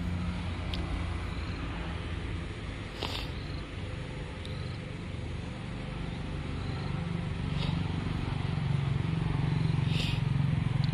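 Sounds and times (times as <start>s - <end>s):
vehicle engine running: 0.0s - 10.9s.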